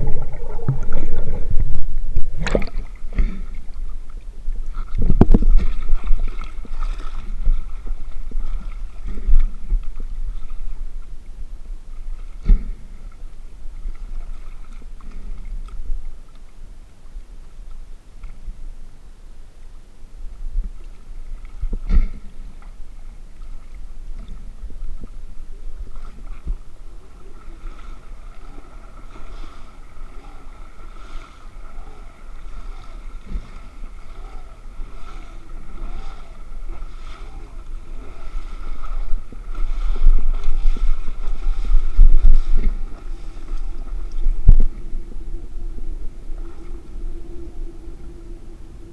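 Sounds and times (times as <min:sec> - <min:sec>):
wind and water buffeting microphone: 0:00.0 - 0:48.9.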